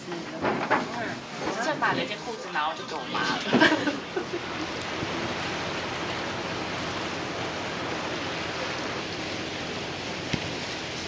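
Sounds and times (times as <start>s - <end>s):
boat engine: 0.0s - 11.0s
water rushing: 0.0s - 11.0s.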